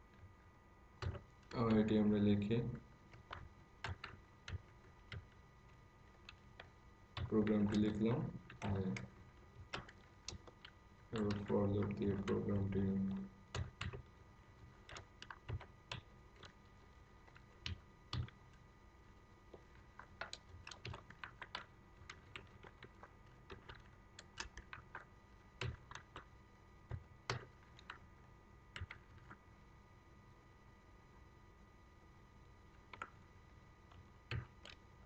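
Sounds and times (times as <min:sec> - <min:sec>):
keyboard typing: 0:01.0 - 0:02.1, 0:03.1 - 0:28.1, 0:28.7 - 0:29.4, 0:32.7 - 0:35.0.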